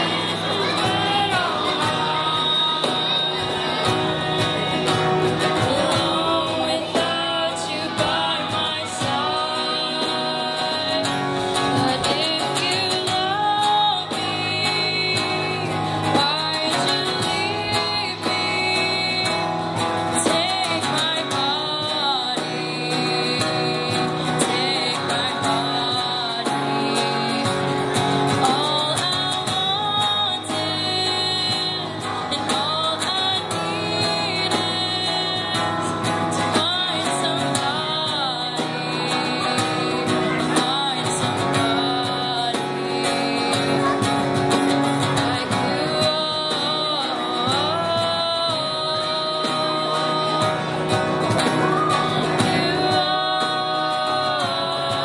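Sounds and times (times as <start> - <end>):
cajon played by hand: 0.0 - 55.0
strummed acoustic guitar: 0.0 - 55.0
women singing: 0.0 - 55.0.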